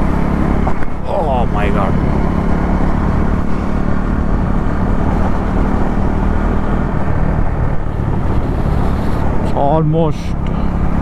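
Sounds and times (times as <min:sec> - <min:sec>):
motorcycle engine running: 0:00.0 - 0:11.0
rush of wind and road noise: 0:00.0 - 0:11.0.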